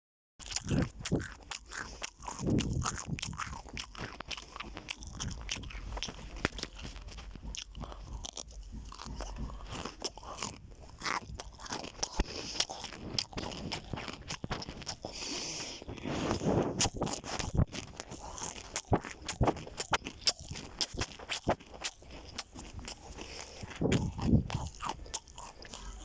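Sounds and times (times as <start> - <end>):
chewing crunchy food: 0.4 - 26.0.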